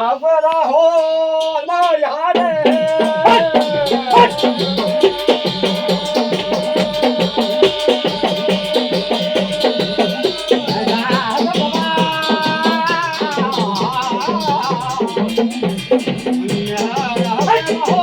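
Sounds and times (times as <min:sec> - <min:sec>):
hand drum beating: 0:02.4 - 0:18.0.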